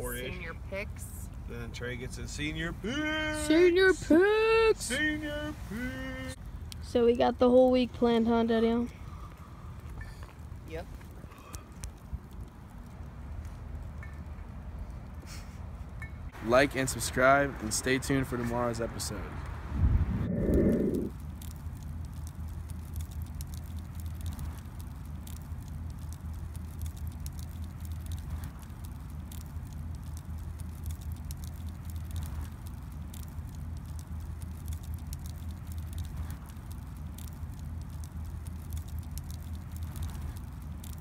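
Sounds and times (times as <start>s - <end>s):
wood fire crackling and popping: 0.0s - 15.3s, 16.3s - 41.0s
low steady rumble: 0.0s - 41.0s.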